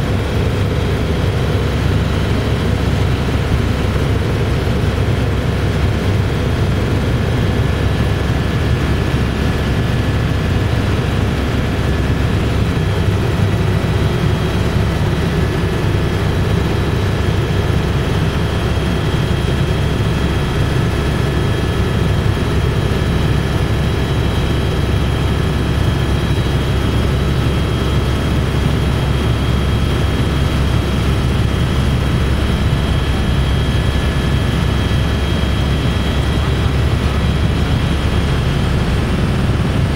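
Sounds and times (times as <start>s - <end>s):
helicopter cabin rumble: 0.0s - 39.9s
high turbine whines: 0.0s - 39.9s.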